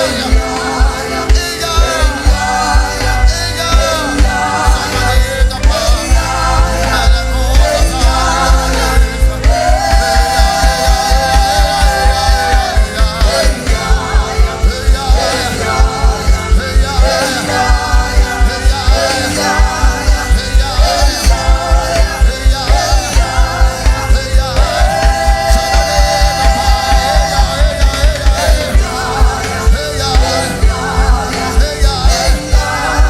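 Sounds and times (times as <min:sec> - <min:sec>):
gospel singing over a band: 0:00.0 - 0:33.0
heavy bass beat: 0:00.0 - 0:33.0.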